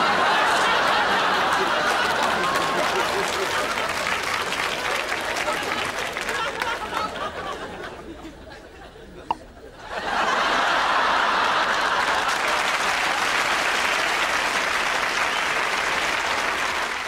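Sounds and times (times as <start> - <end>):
audience applause: 0.0 - 7.6, 10.2 - 17.0.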